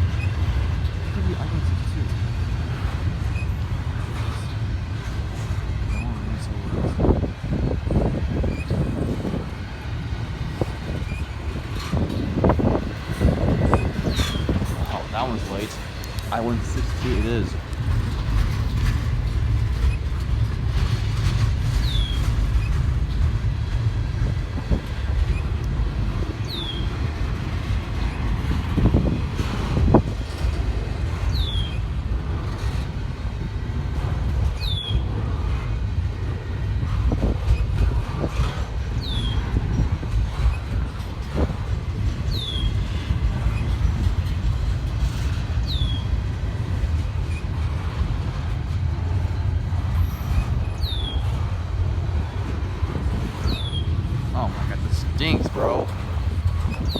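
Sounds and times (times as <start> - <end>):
freight train rumbling on rails: 0.0 - 56.9
train cars clanking: 0.0 - 56.9.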